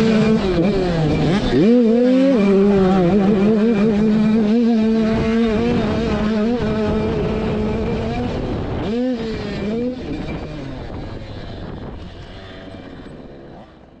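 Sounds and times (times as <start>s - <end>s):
wind on microphone: 0.0s - 13.9s
dirt bike engine high revs: 0.0s - 14.0s.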